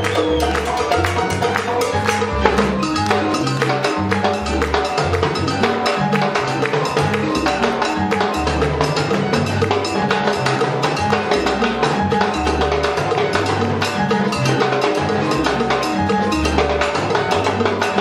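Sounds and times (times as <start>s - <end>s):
background music with bass and percussion: 0.0s - 18.0s.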